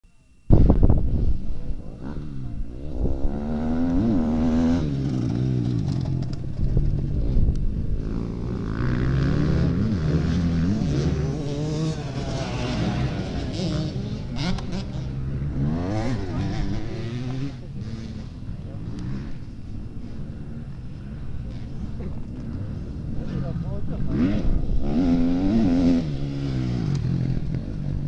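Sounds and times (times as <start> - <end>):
motocross motorcycle engines revving: 0.5 - 28.0.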